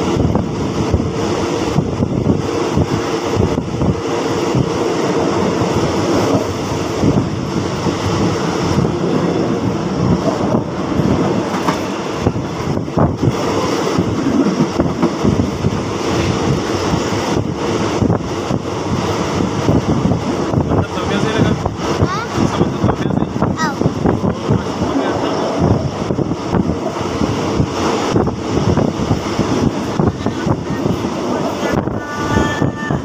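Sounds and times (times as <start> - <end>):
train carriage rumble: 0.0 - 33.0.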